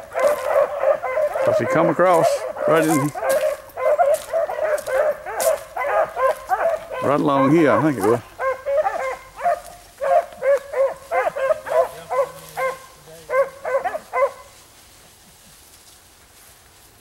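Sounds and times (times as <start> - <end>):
hounds baying: 0.0 - 15.6.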